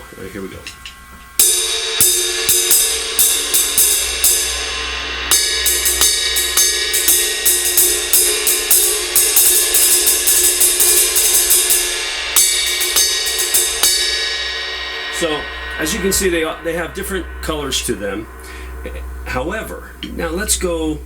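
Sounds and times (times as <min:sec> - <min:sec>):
ride cymbal struck with drumstick: 0:00.0 - 0:21.0.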